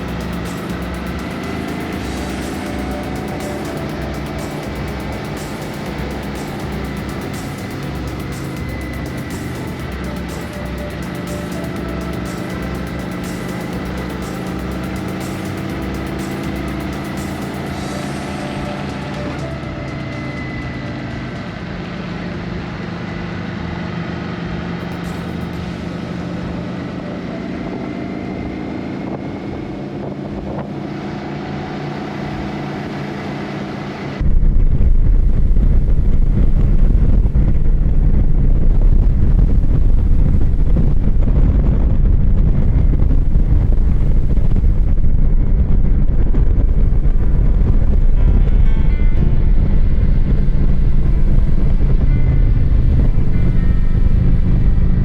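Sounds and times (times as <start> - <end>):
wind rumble on microphone: 0.0 - 33.0, 34.2 - 55.0
motorcycle engine running: 0.0 - 55.0.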